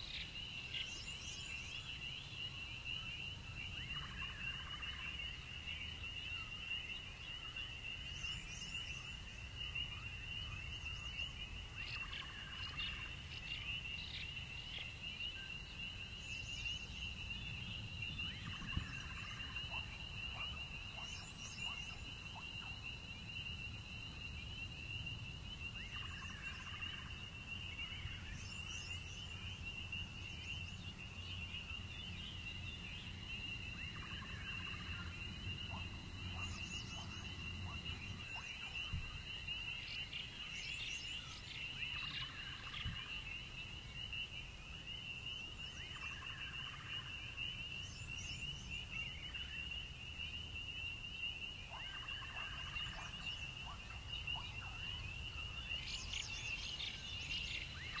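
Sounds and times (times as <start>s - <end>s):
frog croaking: 9.6s - 58.0s.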